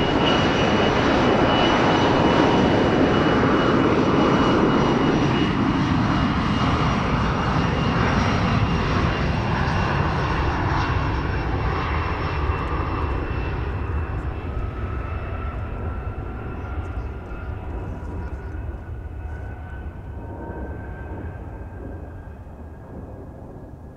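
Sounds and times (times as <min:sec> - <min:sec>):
jet engine rumble with whine: 0:00.0 - 0:23.9.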